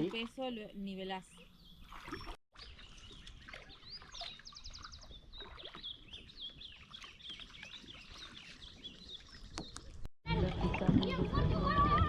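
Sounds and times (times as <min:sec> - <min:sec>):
small birds chirping: 0:00.4 - 0:10.1.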